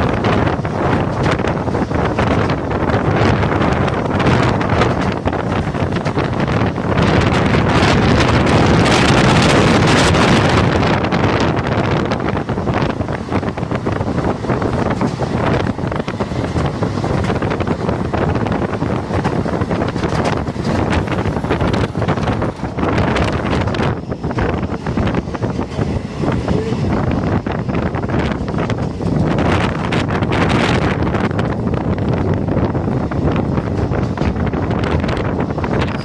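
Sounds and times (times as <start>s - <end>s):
passenger train running: 0.0s - 36.0s
wind on microphone: 0.0s - 36.0s.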